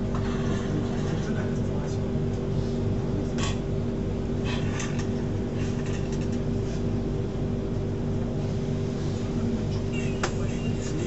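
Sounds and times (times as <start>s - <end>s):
train hum and rumble inside carriage: 0.0s - 11.0s.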